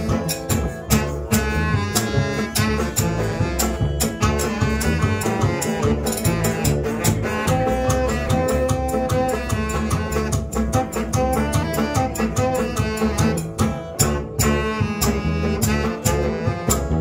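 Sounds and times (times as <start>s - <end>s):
acoustic guitars: 0.0s - 17.0s
saxophone: 0.0s - 17.0s
steady beat: 0.0s - 17.0s.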